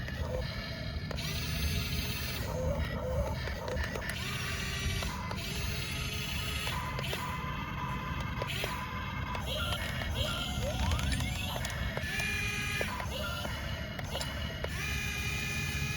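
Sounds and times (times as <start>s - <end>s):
toy excavator motors whirring: 0.0s - 15.9s.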